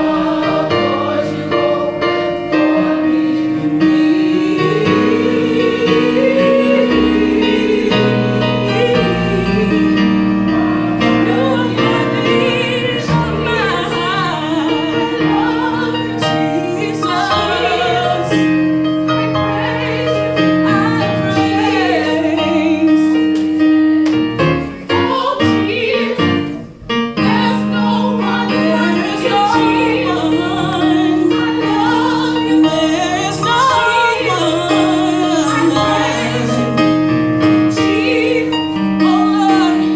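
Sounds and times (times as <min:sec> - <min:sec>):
gospel choir singing: 0:00.0 - 0:39.9
piano accompaniment: 0:00.0 - 0:39.9.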